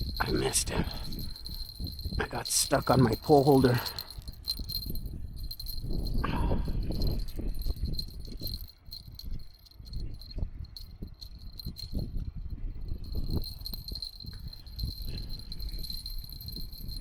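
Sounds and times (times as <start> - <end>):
faint high jingle: 0.0 - 17.0
fishing tackle knocking and rattling: 0.0 - 17.0
wind gusting on microphone: 0.0 - 17.0.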